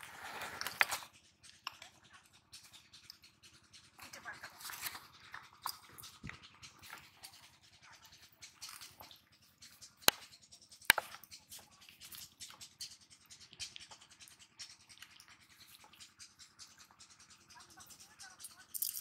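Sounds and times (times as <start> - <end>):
rustling and scratching of fishing gear: 0.0 - 2.6, 3.9 - 19.0.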